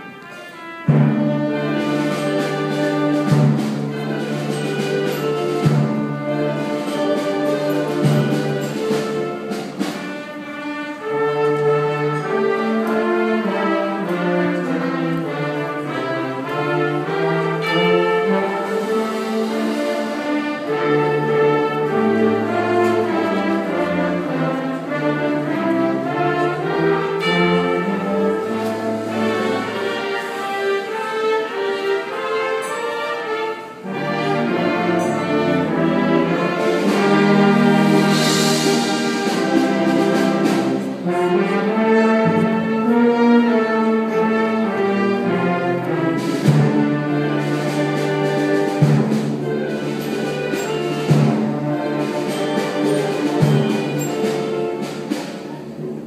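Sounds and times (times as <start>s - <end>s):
band playing with saxophones: 0.0s - 56.0s.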